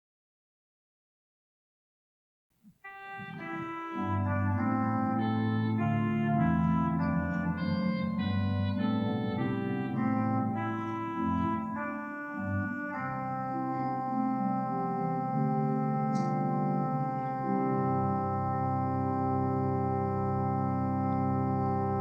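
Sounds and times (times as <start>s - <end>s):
church organ chords: 2.9s - 22.0s
low organ bass line: 3.2s - 22.0s.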